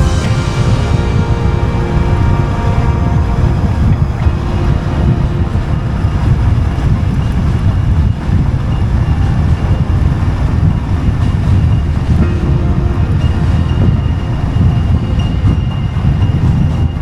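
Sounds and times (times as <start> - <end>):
motorcycle engine rumbling: 0.0 - 17.0
road and wind noise: 0.0 - 17.0.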